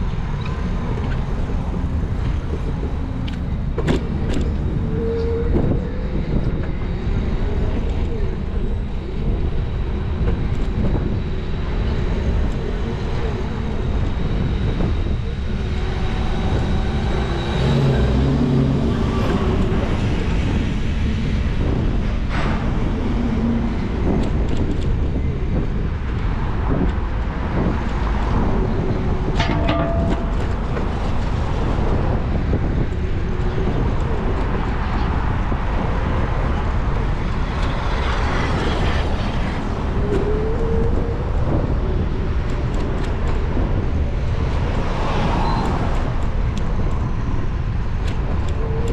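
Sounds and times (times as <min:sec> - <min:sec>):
car engine and road noise: 0:00.0 - 0:48.9
passing traffic: 0:00.0 - 0:48.9.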